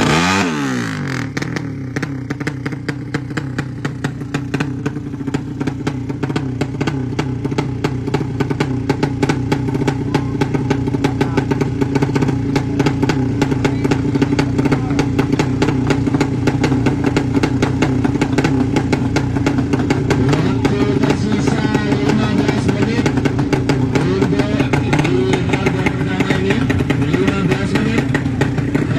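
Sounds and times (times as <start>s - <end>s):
racing motorcycle engine: 0.0s - 28.9s.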